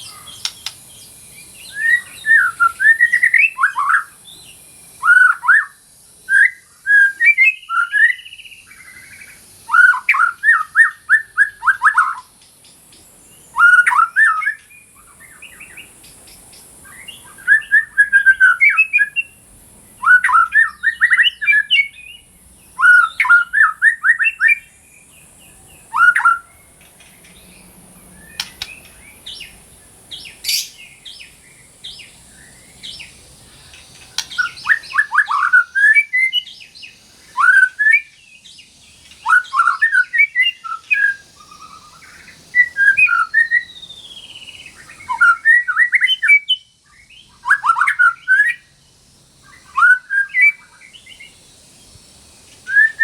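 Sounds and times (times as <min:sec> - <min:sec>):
bird singing whistled notes: 0:00.0 - 0:53.0.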